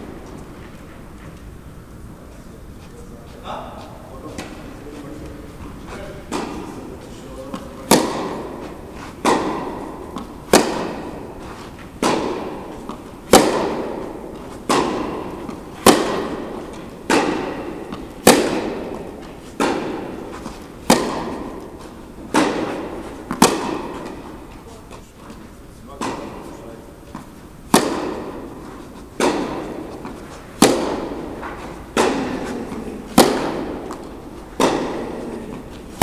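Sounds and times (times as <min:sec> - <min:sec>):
tennis ball struck with rackets: 0:06.2 - 0:25.4, 0:26.0 - 0:36.0.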